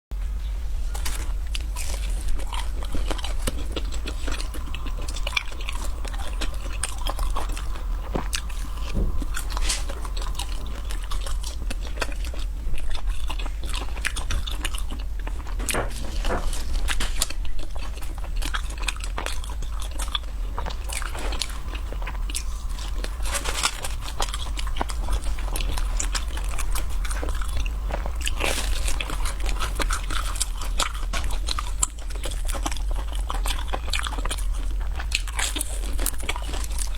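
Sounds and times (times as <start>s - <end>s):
low hum: 0.2s - 36.9s
crunching fried snacks: 0.9s - 36.9s.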